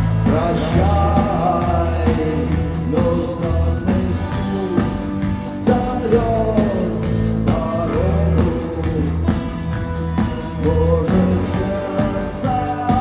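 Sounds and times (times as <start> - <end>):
bass: 0.0 - 13.0
drums: 0.0 - 13.0
rock band playing live: 0.0 - 13.0.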